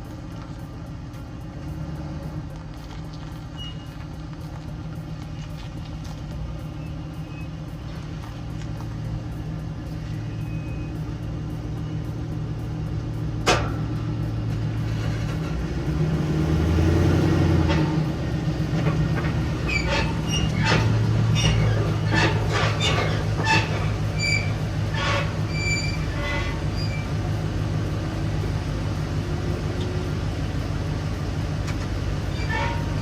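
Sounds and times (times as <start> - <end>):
car engine running through exhaust: 0.0 - 33.0.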